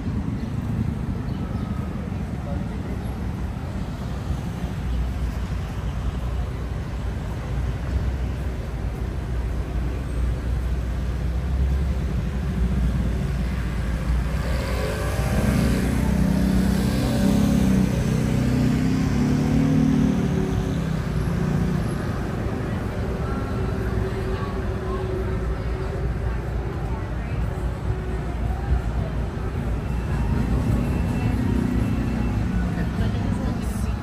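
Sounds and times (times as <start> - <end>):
traffic engine rumble: 0.0 - 34.0
vehicle engine drone: 0.0 - 34.0.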